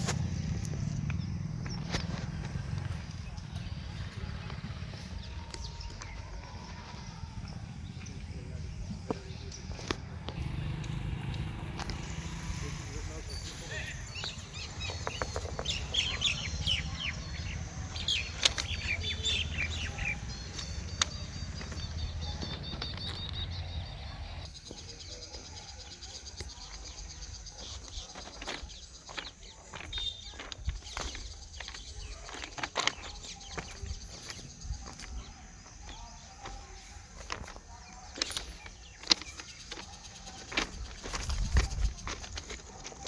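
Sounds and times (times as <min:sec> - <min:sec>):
footsteps on loose stones: 0:00.0 - 0:10.9, 0:13.2 - 0:43.0.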